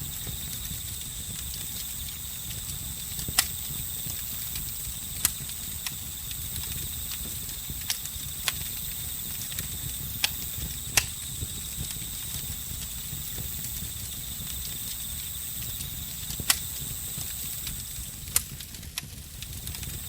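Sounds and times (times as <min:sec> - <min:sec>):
crickets trilling: 0:00.0 - 0:18.7, 0:19.5 - 0:20.0
campfire crackling and popping: 0:00.0 - 0:20.0.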